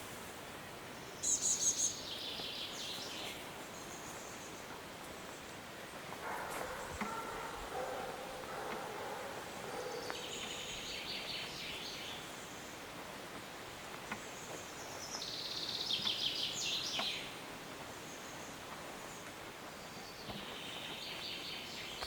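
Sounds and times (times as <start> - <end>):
steady background hiss: 0.0 - 22.0
songbirds singing: 0.7 - 22.0.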